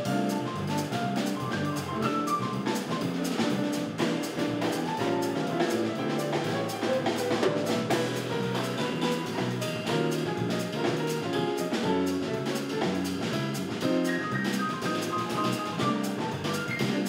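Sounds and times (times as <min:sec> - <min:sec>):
drum kit cymbal beat: 0:00.0 - 0:17.0
grand piano runs: 0:00.0 - 0:17.0.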